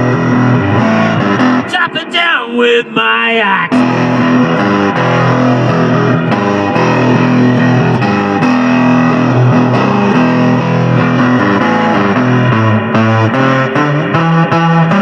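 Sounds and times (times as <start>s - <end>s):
bass line: 0.0s - 15.0s
electric guitar riff: 0.0s - 15.0s.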